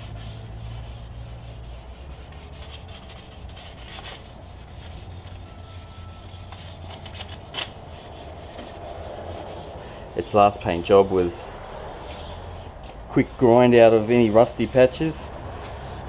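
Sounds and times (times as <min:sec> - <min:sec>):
hand sanding back and forth: 0:00.0 - 0:16.0.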